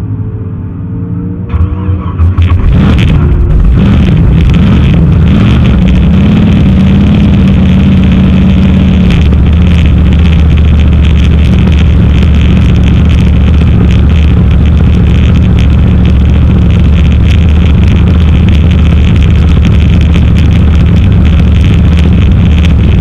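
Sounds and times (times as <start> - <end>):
car engine revving at high revs: 1.5 - 23.0.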